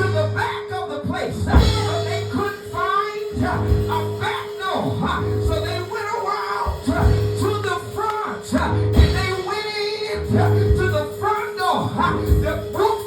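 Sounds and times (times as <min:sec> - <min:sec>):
organ chord and bass notes: 0:00.0 - 0:13.0.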